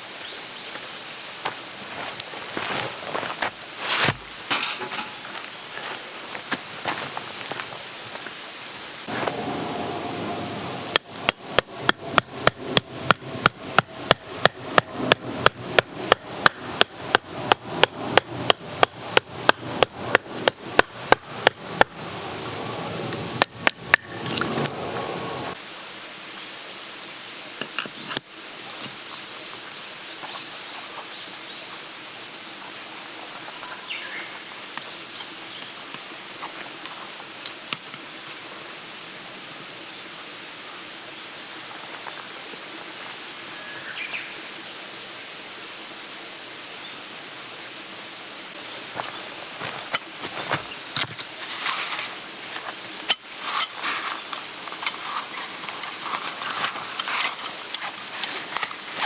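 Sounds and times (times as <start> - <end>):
steady hiss of wind: 0.0 - 59.0.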